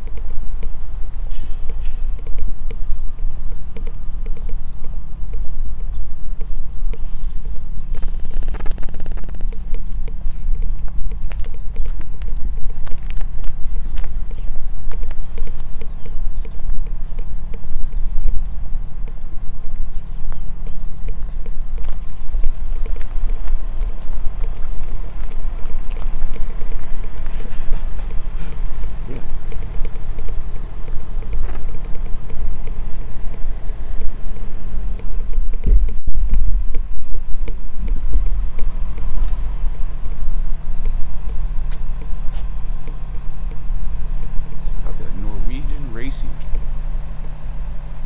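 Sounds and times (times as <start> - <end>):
footsteps on concrete: 0.0 - 48.0
loud low rumble: 0.0 - 48.0
vehicle engine idling: 0.0 - 48.0.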